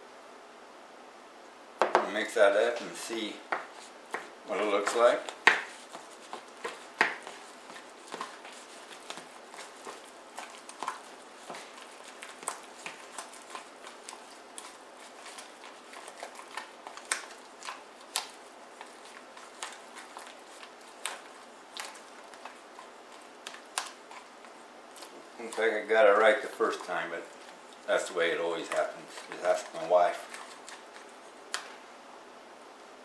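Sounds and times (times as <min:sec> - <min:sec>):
utensil scraping a mixing bowl: 0:02.7 - 0:31.4.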